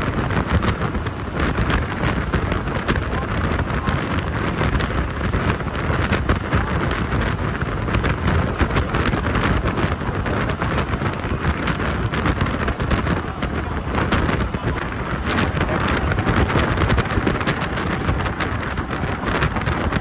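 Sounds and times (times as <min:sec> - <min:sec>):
bus engine and road noise: 0:00.0 - 0:20.0
wind buffeting microphone: 0:00.0 - 0:20.0.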